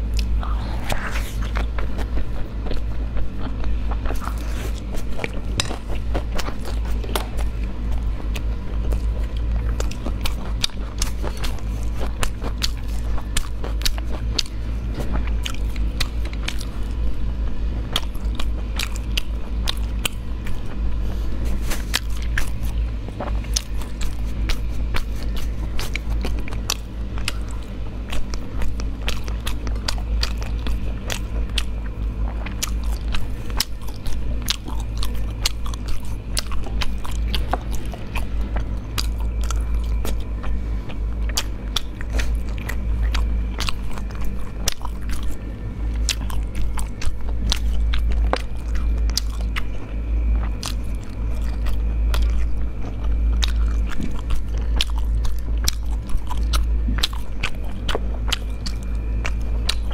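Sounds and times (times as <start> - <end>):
chewing: 0.0 - 59.9
steady low hum: 0.0 - 59.9.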